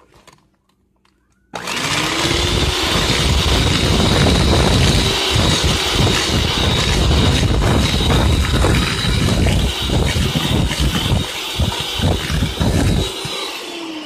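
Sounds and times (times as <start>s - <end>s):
electric hand mixer running: 1.6s - 14.0s.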